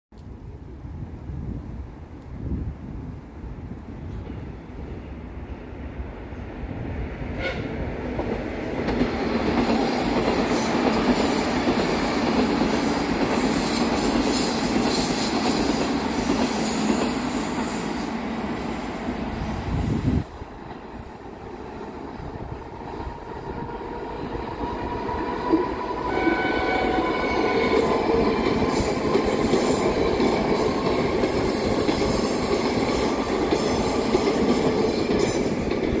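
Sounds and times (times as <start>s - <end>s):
train rumbling on rails: 0.4s - 36.0s.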